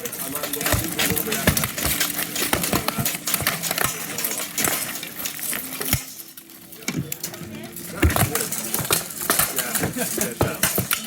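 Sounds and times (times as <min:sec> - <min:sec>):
steel armour and weapons clanking: 0:00.0 - 0:11.0.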